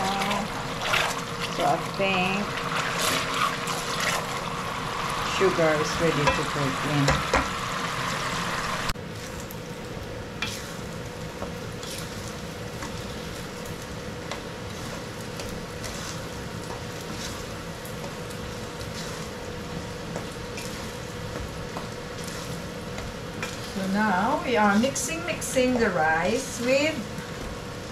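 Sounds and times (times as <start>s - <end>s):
sizzling in a pan: 0.0s - 27.9s.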